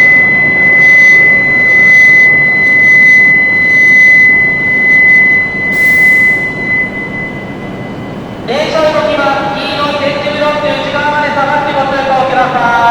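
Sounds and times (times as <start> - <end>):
steady high-pitched electronic tone: 0.0 - 12.9.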